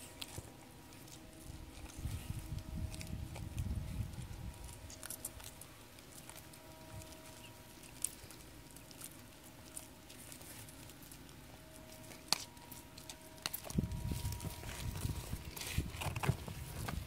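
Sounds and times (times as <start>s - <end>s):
tortoises crunching cactus: 0.0s - 17.0s.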